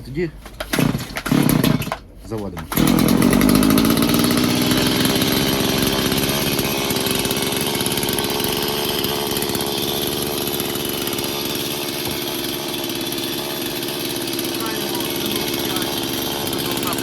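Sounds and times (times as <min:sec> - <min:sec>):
chainsaw running: 0:00.5 - 0:17.0.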